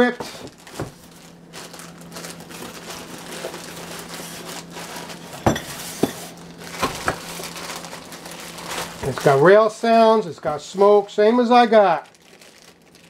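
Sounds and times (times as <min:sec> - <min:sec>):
plastic bag crinkling: 0:00.4 - 0:13.0.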